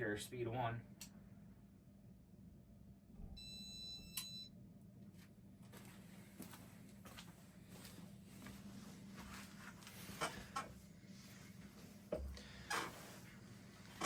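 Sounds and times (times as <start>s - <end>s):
ceiling fan humming: 0.0s - 14.0s.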